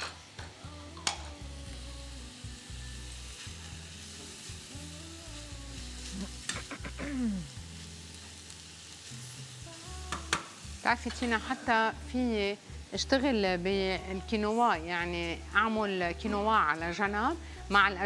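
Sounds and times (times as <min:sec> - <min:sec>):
onion and bacon sizzling: 0:00.0 - 0:18.0.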